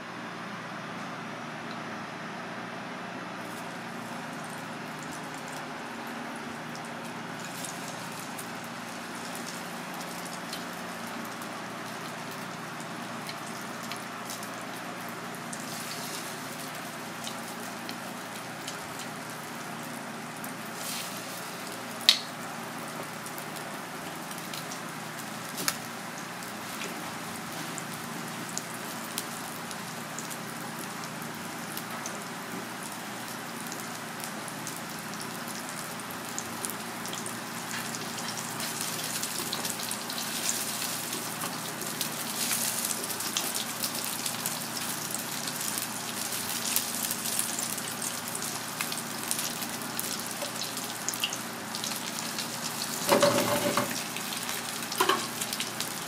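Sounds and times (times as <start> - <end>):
fish frying in hot oil: 3.4 - 56.0.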